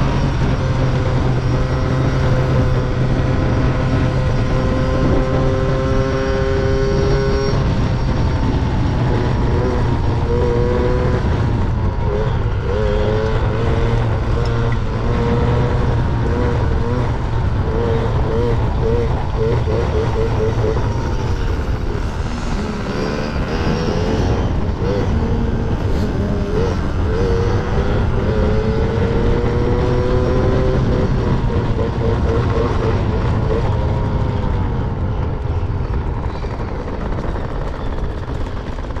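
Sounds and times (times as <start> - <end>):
two-stroke engine revving: 0.0 - 34.7.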